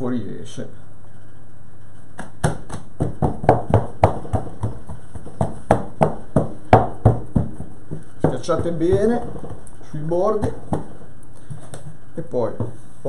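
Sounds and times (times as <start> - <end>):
fingers patting dough: 2.1 - 12.8.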